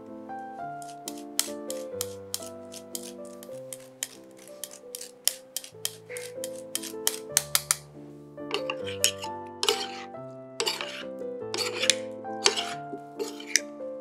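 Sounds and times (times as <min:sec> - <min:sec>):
instrumental music with held notes: 0:00.0 - 0:14.0
utensils clinking on dishes: 0:00.8 - 0:07.8, 0:08.5 - 0:11.0, 0:11.6 - 0:13.6.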